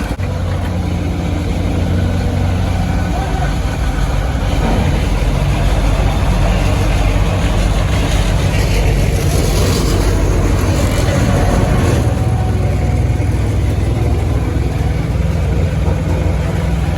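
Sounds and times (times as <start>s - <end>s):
engine running low-pitched: 0.0s - 16.9s.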